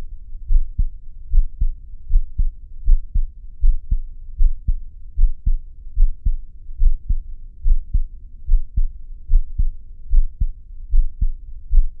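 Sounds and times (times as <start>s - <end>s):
heartbeat thumps: 0.5s - 12.0s.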